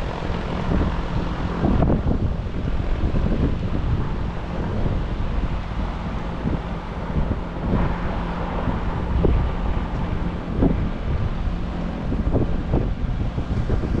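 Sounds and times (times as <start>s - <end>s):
heat pump humming: 0.0s - 14.0s
wind buffeting microphone: 0.0s - 14.0s.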